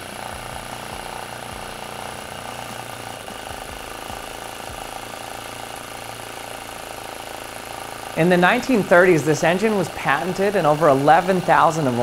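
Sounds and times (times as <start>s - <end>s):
small engine rapid mechanical beat: 0.0s - 12.0s.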